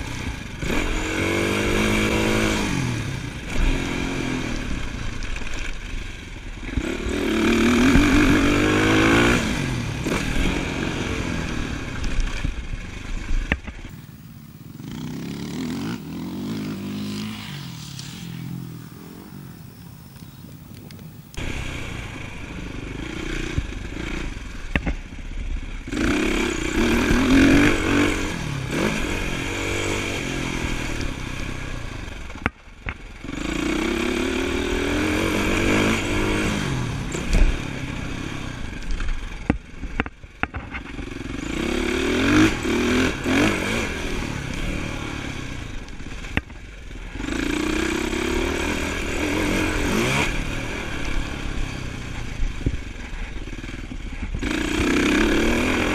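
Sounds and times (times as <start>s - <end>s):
dirt bike engine revving: 0.0s - 20.4s, 21.3s - 25.0s, 25.7s - 32.4s, 33.1s - 55.9s.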